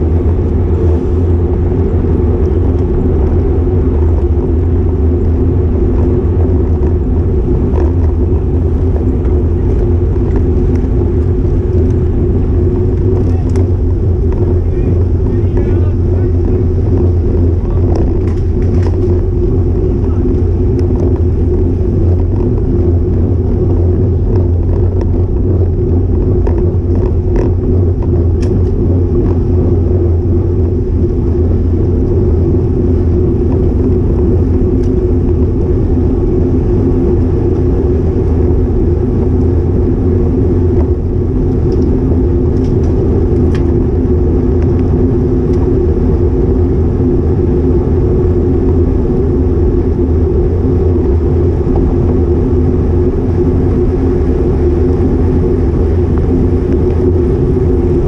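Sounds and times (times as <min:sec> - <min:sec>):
road rumble: 0:00.0 - 0:58.0
wind on microphone: 0:00.0 - 0:58.0.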